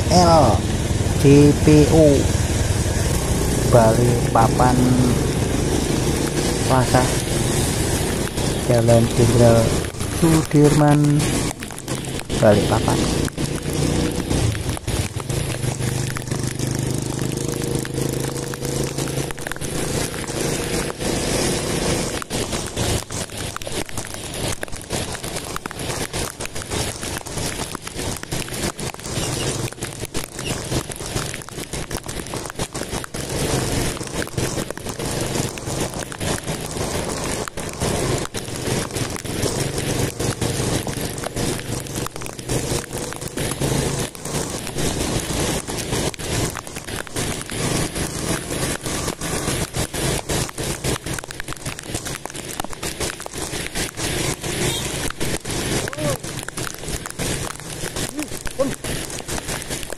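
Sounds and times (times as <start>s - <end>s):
motorcycle engine hum: 0.0s - 59.9s.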